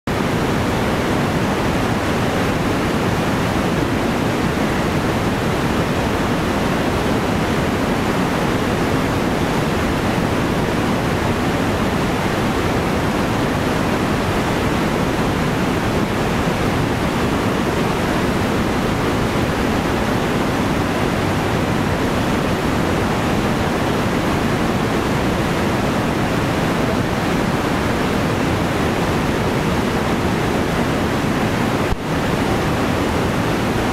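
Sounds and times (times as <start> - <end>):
water rushing over rocks: 0.1 - 33.9.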